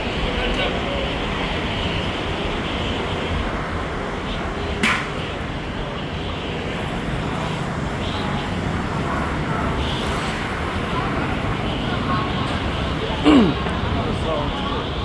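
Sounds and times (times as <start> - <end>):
street and traffic noise: 0.0 - 15.0.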